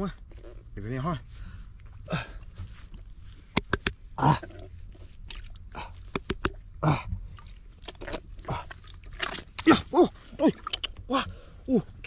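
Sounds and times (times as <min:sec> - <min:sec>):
mud clicking: 0:00.0 - 0:12.0
wet mud squelching: 0:00.0 - 0:12.0.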